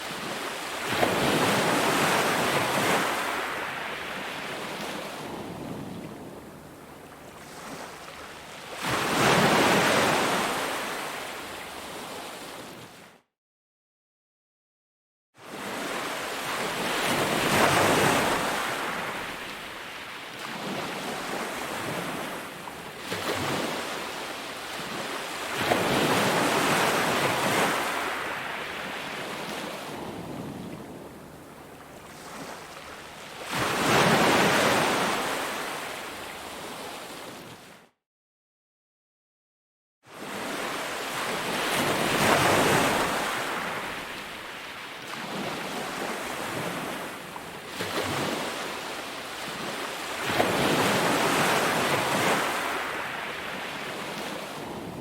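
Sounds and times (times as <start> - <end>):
waves breaking on beach: 0.0 - 13.0, 15.4 - 37.8, 40.1 - 55.0
wind: 0.0 - 13.3, 15.4 - 38.0, 40.0 - 55.0.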